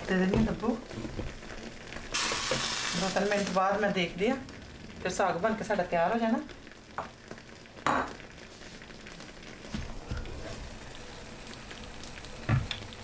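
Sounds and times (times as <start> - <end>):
greens bubbling in a frying pan: 0.0 - 13.0.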